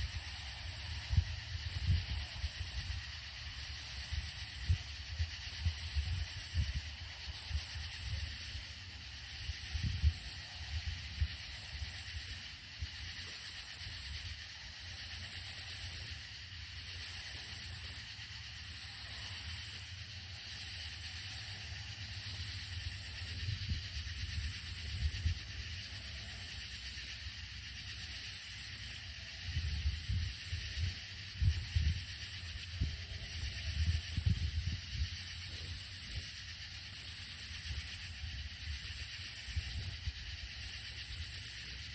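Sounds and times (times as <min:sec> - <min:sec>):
cicadas buzzing: 0:00.0 - 0:41.9
insect chorus: 0:00.0 - 0:41.9.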